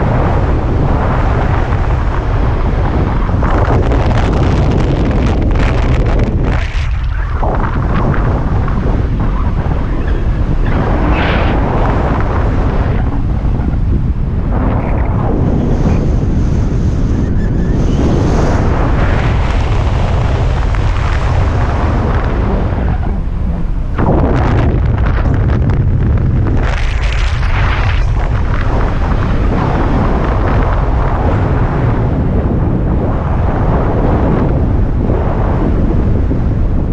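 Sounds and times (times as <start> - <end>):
wind rumble on microphone: 0.0 - 36.9.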